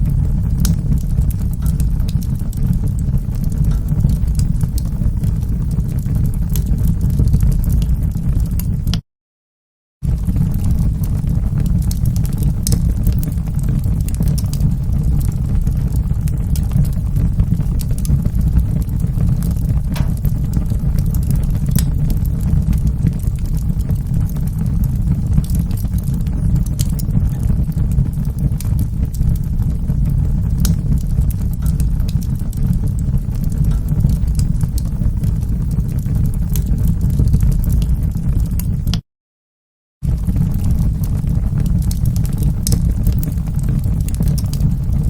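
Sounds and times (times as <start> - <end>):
wood fire crackling and popping: 0.0 - 9.0, 10.0 - 39.0, 40.0 - 45.0.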